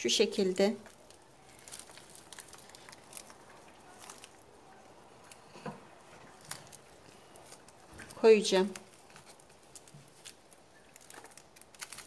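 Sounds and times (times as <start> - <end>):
rustling leaves and crinkly plastic: 0.0 - 12.0.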